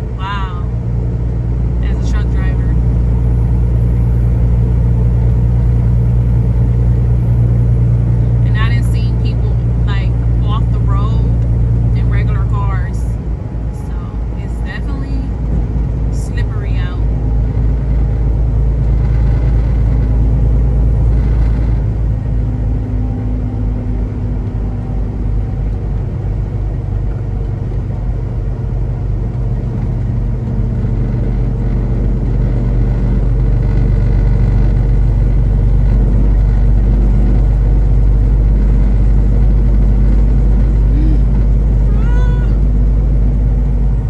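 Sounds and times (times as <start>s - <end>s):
road noise: 0.0s - 44.0s
truck engine drone: 0.0s - 44.0s.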